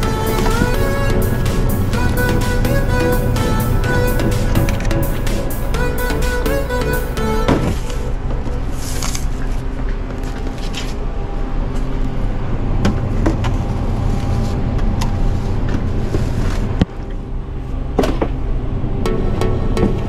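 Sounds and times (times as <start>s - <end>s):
kitchen machinery hum: 0.0s - 20.0s.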